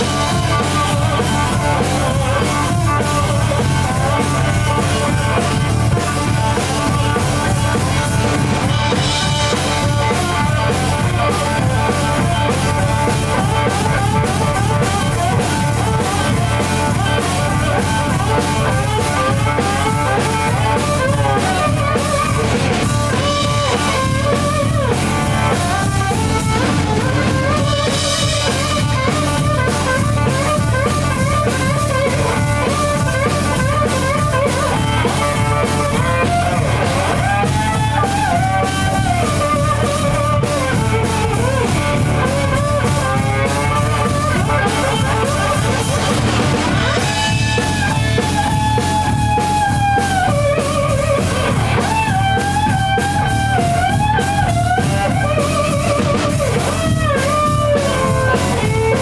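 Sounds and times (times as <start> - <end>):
drum kit beat: 0.0 - 59.0
electric slide guitar: 0.0 - 59.0.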